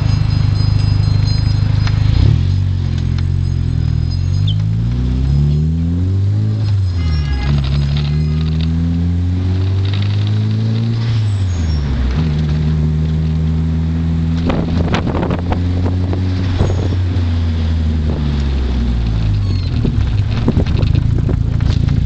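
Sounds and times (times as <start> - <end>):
turbocharged car engine accelerating: 0.0 - 22.0.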